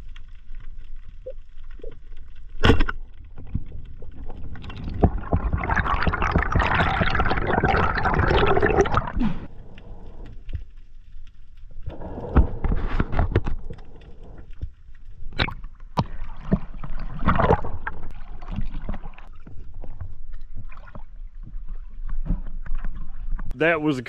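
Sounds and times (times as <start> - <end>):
water splashing and sloshing: 0.0 - 23.5.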